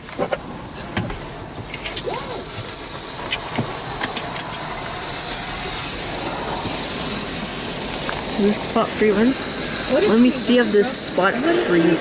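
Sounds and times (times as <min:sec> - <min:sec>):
water spray hissing on car: 0:01.9 - 0:12.0.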